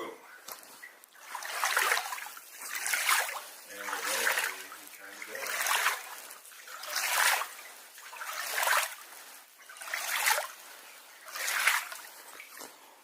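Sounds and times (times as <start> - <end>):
water sloshing from paddling: 0.5 - 12.8.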